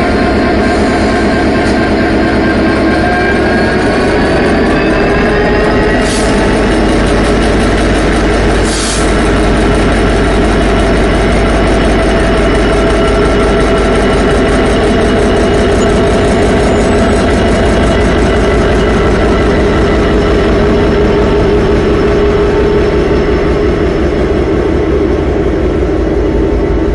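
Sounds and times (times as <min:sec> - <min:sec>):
diesel locomotive engine drone: 0:00.0 - 0:26.9.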